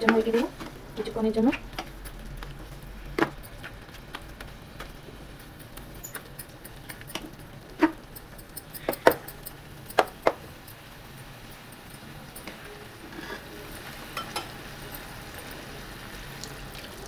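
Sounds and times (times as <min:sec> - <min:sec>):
spatula stirring food in pan: 0:00.0 - 0:17.0.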